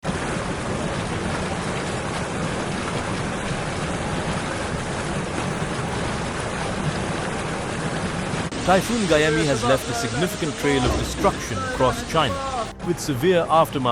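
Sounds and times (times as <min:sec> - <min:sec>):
heavy rain and rushing water: 0:00.0 - 0:13.1.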